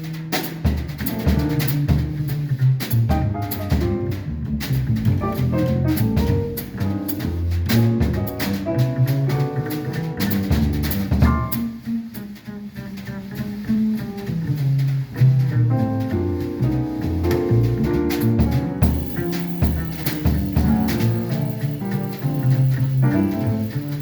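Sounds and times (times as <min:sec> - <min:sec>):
drum kit: 0:00.0 - 0:24.0
jazz band playing: 0:00.0 - 0:24.0
bass line: 0:01.0 - 0:24.0.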